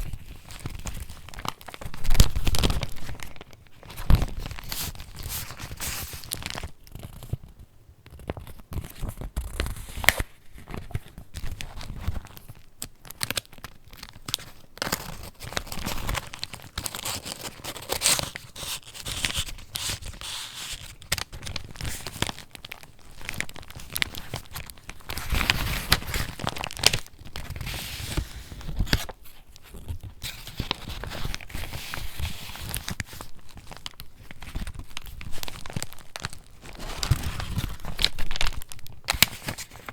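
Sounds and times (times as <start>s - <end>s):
paper pages rustling and crinkling: 0.0s - 39.9s.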